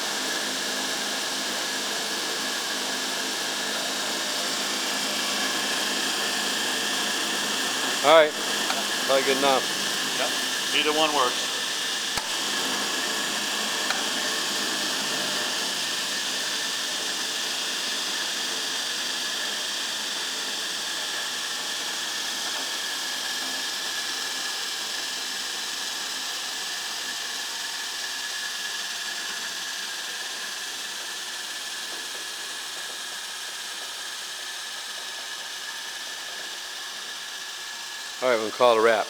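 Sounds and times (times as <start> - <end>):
grinder machine motor whirring: 0.0 - 39.0.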